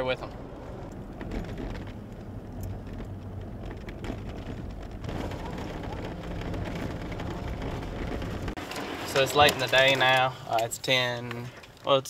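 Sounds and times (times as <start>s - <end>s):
vehicle engine and tyres rumbling: 0.0s - 11.8s
tyres crunching on gravel: 0.4s - 11.7s.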